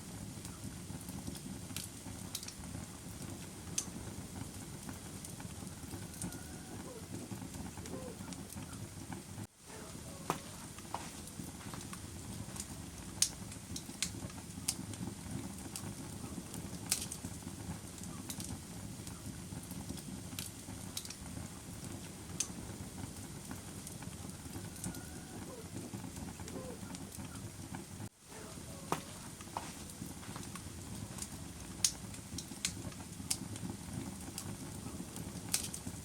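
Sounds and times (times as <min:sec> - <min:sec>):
bonfire rushing: 0:00.0 - 0:36.0
fire pops and snaps: 0:00.0 - 0:36.0.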